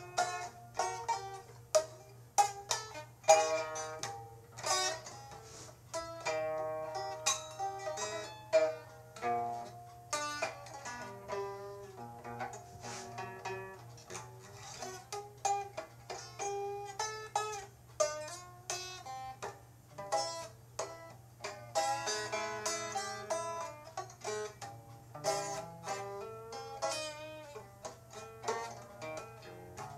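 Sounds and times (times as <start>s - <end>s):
plucked string instrument: 0.0s - 29.9s.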